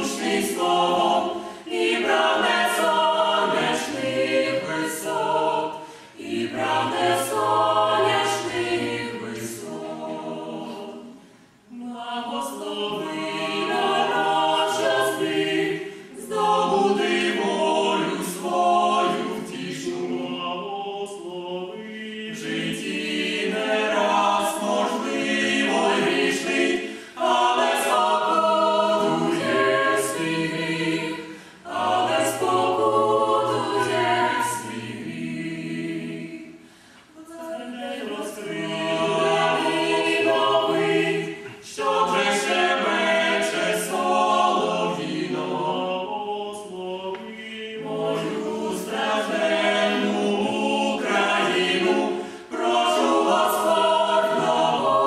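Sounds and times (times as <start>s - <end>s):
vocal ensemble singing a cappella: 0.0s - 55.0s.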